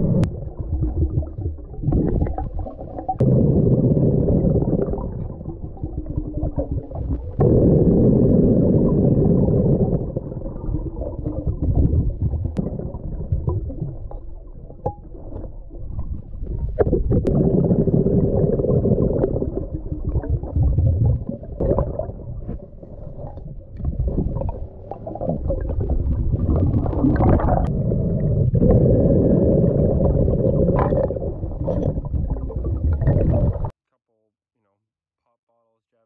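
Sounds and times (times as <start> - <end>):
muffled underwater rumble: 0.0 - 33.7.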